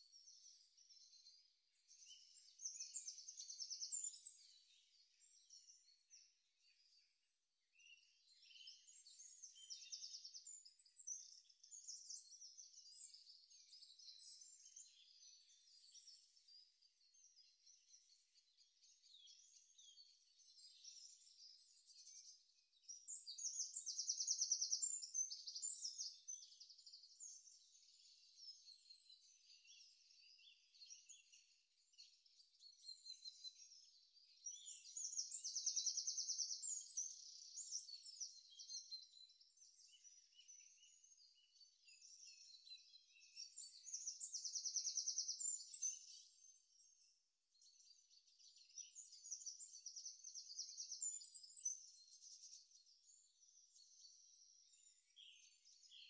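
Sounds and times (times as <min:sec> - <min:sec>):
bird chirps and twittering: 0:00.0 - 0:56.0.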